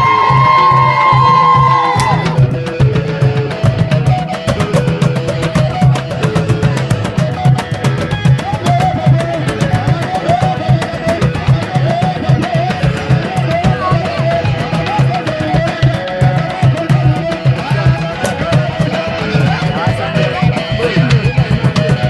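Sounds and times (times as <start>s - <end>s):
electric guitar lead lines: 0.0s - 22.0s
fast percussion beat: 0.0s - 22.0s
pulsing bass: 0.0s - 22.0s.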